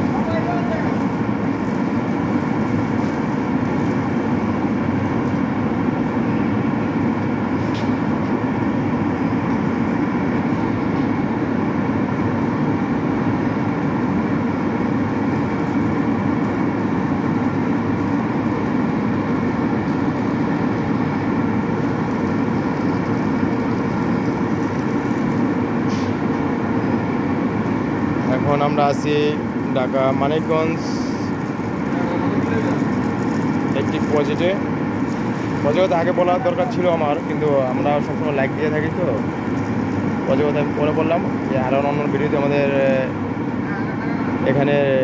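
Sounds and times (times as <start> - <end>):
low machine drone: 0.0 - 44.5.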